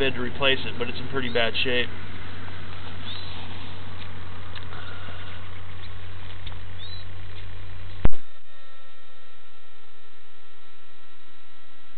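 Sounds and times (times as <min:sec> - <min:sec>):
electrical hum: 0:00.0 - 0:11.9
faint steady tones: 0:00.0 - 0:11.9.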